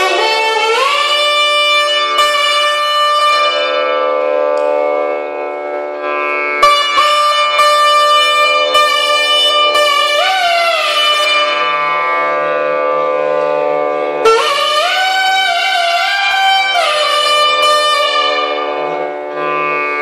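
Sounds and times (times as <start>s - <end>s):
reed pipe slow melody: 0.0s - 20.0s
shruti box drone: 0.0s - 20.0s.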